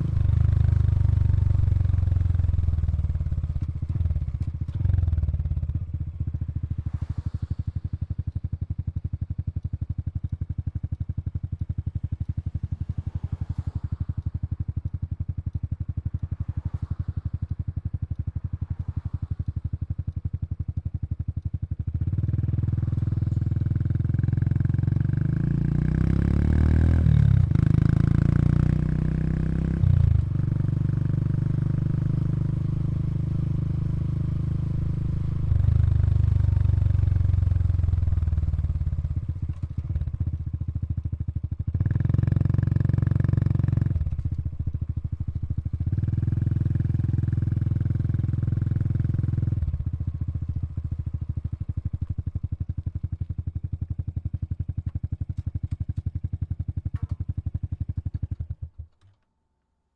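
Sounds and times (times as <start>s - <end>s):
motorcycle engine idling: 0.0s - 25.6s, 26.9s - 59.2s.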